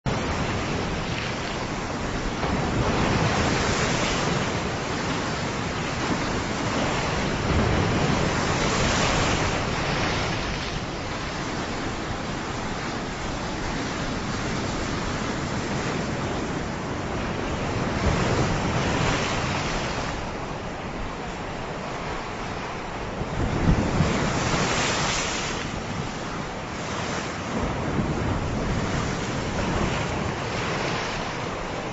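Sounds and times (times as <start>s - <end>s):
wind: 0.0s - 31.9s
waves breaking on a beach: 0.1s - 31.9s.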